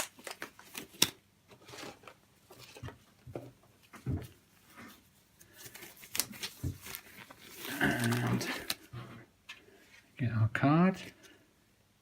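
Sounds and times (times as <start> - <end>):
gloves rustling: 0.0 - 10.2.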